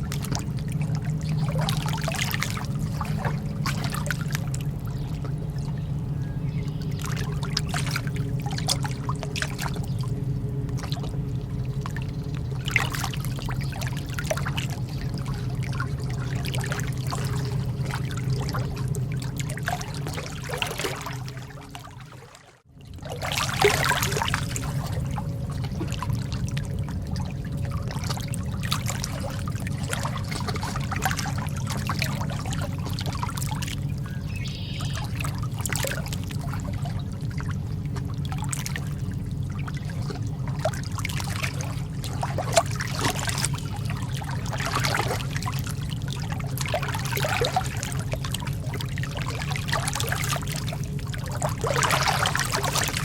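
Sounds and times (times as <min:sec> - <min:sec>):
lake water lapping: 0:00.0 - 0:53.0
steady low rumble: 0:00.0 - 0:53.0.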